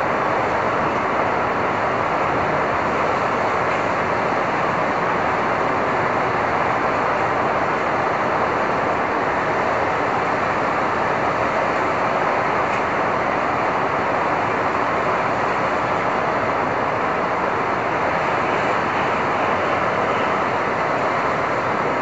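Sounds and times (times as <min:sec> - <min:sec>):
city traffic noise: 0:00.0 - 0:22.0.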